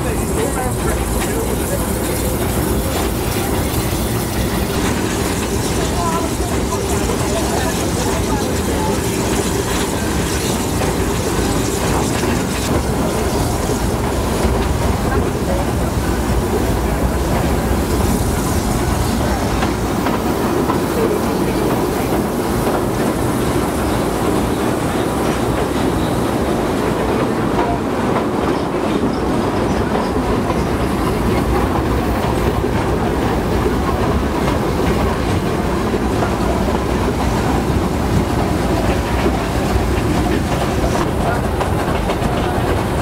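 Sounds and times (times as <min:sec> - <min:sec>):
steam train rumble: 0:00.0 - 0:43.0
wheels clattering on rails: 0:00.0 - 0:43.0.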